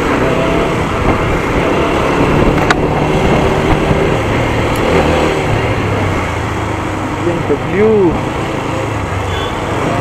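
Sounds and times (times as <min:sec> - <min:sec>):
riding wind rush: 0:00.0 - 0:09.2.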